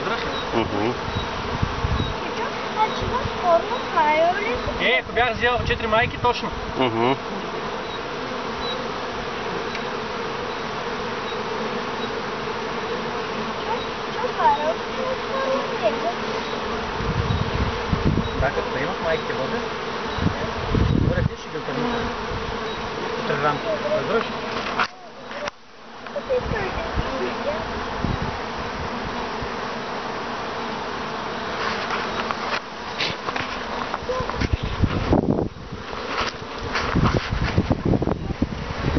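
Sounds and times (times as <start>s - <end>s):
honey bees buzzing: 0.0s - 38.9s.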